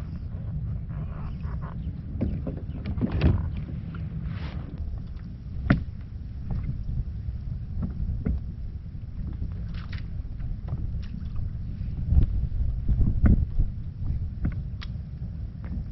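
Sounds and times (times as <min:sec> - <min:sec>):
wind rumble on microphone: 0:00.0 - 0:15.9.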